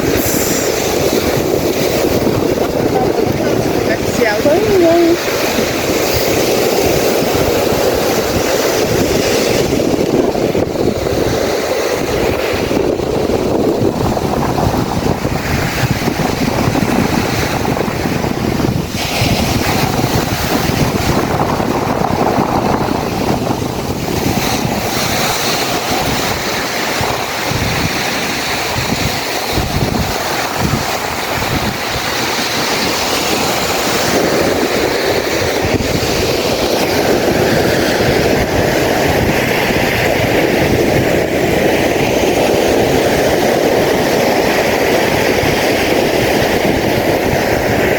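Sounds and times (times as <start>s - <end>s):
surf washing on a beach: 0.0s - 47.9s
wind buffeting microphone: 0.0s - 47.9s.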